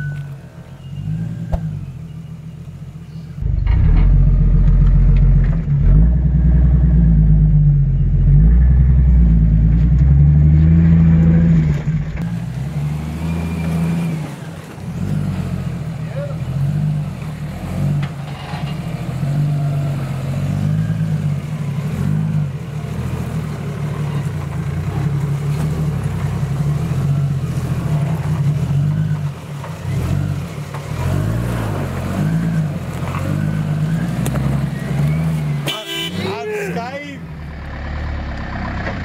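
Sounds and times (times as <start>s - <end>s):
vehicle engine at low revs: 0.0s - 39.0s.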